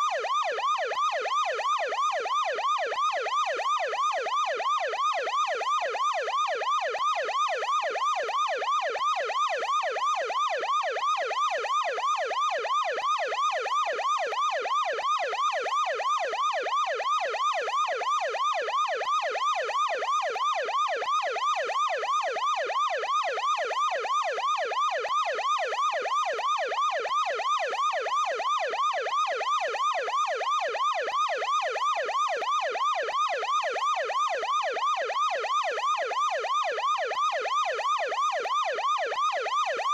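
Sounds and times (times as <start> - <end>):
ambulance siren yelp: 0.0 - 39.9.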